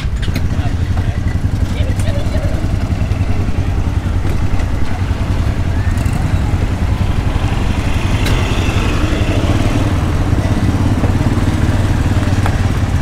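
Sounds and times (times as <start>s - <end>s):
small engines rumbling: 0.0s - 13.0s.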